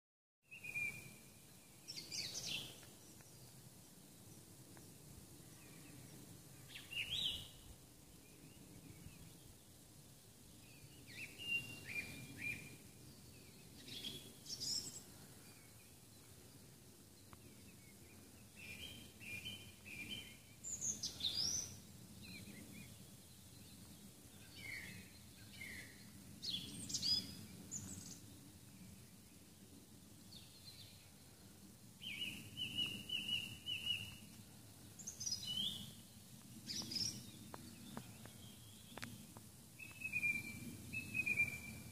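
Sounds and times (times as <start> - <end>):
faint low background noise: 0.4 - 41.9
songbirds chirping and whistling: 0.5 - 3.7, 5.0 - 9.6, 10.6 - 41.9.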